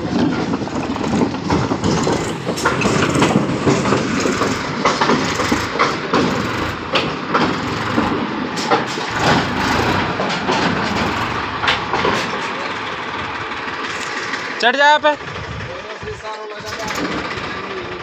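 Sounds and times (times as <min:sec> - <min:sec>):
metallic clanking and rattling: 0:00.0 - 0:18.0
tractor engine running: 0:00.0 - 0:18.0.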